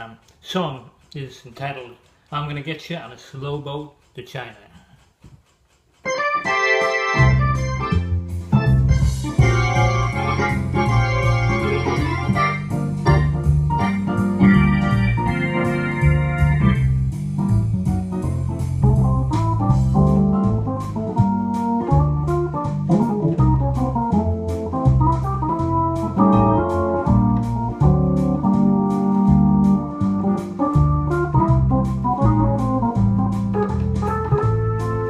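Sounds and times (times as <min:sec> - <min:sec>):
steady ticking beat: 0:00.0 - 0:35.0
jazz organ playing: 0:06.0 - 0:35.0.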